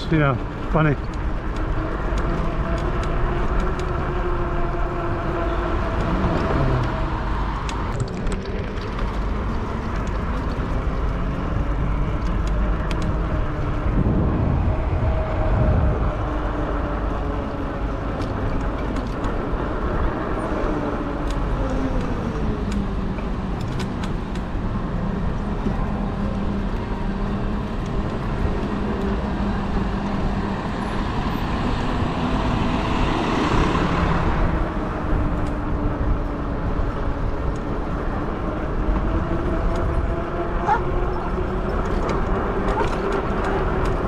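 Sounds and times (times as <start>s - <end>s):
e-bike motor hum: 0.0s - 44.0s
road traffic rushing: 0.0s - 44.0s
wind rumble on microphone: 0.0s - 44.0s.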